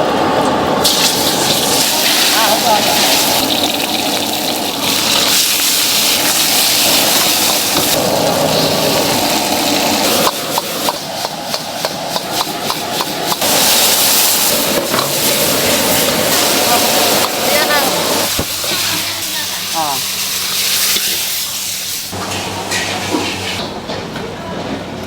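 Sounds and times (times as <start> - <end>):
burner and frying food: 0.0 - 23.8.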